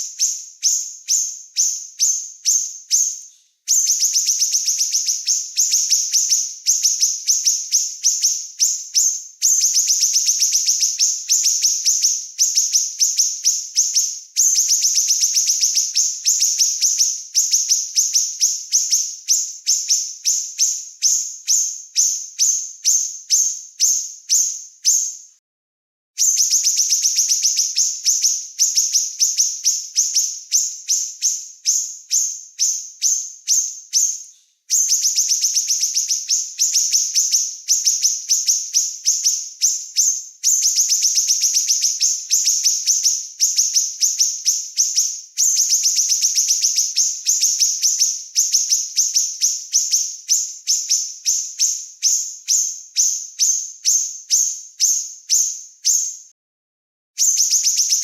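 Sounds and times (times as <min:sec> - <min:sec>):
songbird chirping trills: 0:00.0 - 0:25.2, 0:26.3 - 0:56.2.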